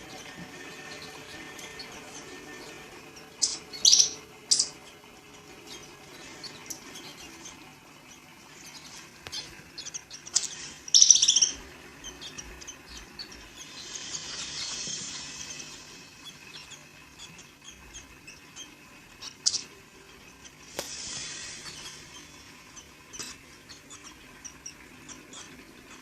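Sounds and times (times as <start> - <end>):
squirrel chirping: 0.0 - 26.0.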